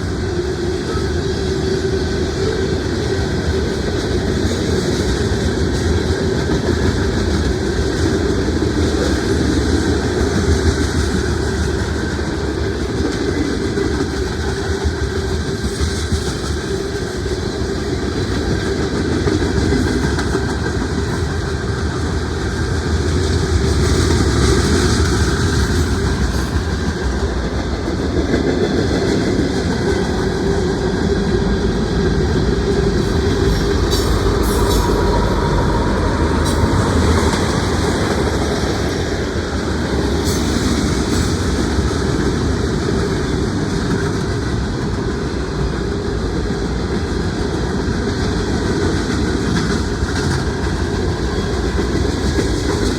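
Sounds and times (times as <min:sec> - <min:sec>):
train cars rumbling: 0:00.0 - 0:52.9.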